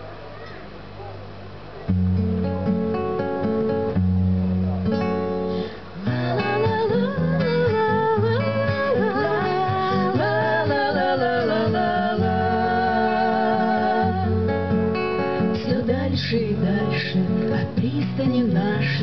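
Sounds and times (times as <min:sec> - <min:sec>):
strummed acoustic guitar: 0:01.8 - 0:19.0.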